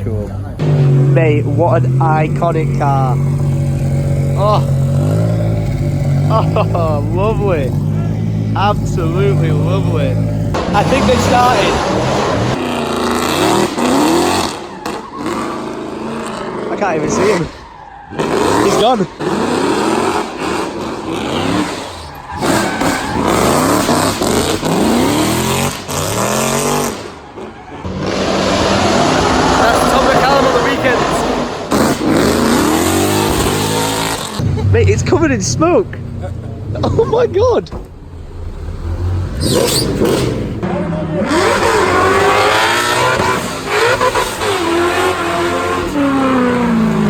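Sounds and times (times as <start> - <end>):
car engine revving hard: 0.0 - 37.5, 38.2 - 47.0
tyres squealing: 0.0 - 47.0.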